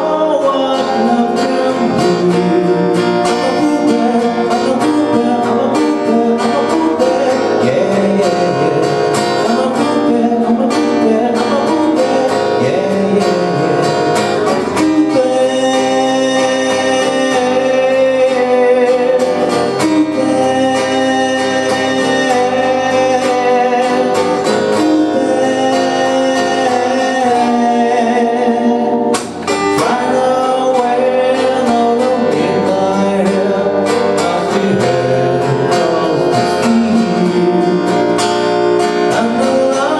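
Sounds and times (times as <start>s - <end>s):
acoustic guitar: 0.0s - 39.9s
person singing: 0.0s - 39.9s.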